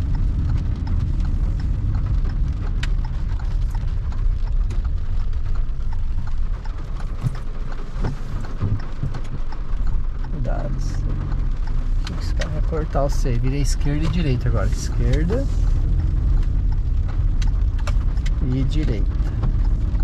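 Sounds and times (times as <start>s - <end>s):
car road and engine rumble: 0.0s - 20.0s
raindrops tapping on car roof: 0.0s - 20.0s.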